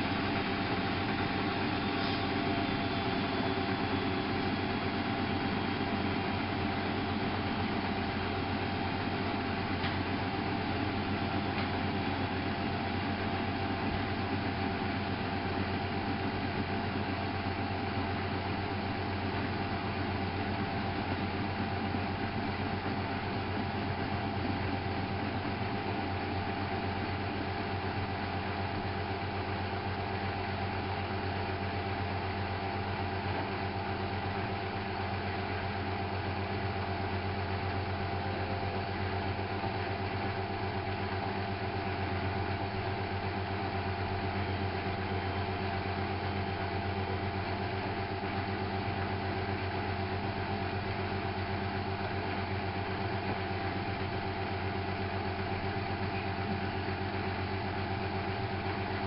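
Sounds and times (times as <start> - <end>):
washing machine motor hum: 0.0 - 59.0
washing machine whine: 0.0 - 59.0.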